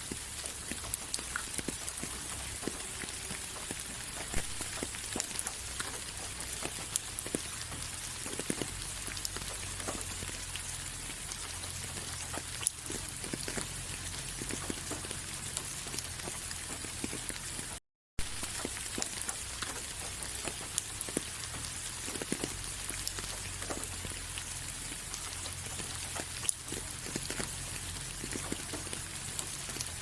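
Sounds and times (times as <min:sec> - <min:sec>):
rain falling on a surface: 0:00.0 - 0:30.0.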